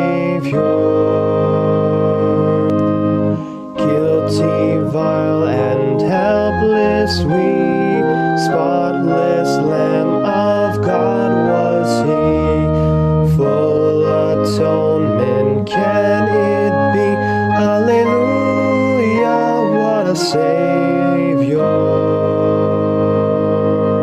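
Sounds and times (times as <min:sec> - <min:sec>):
organ chords: 0:00.0 - 0:24.0
person singing a hymn: 0:00.0 - 0:24.0.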